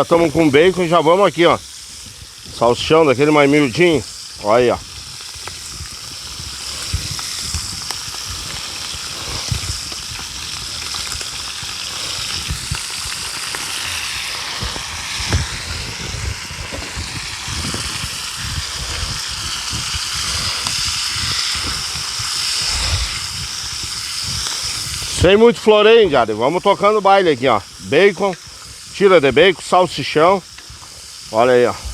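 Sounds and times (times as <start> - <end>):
bacon and sausages sizzling: 0.0 - 31.9.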